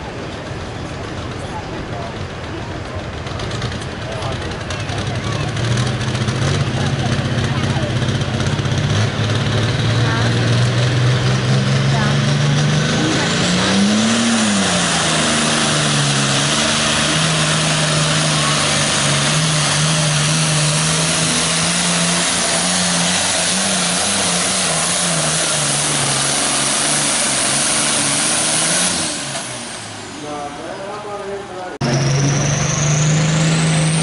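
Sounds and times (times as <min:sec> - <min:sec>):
tractor diesel engine at full throttle: 0:00.0 - 0:34.0.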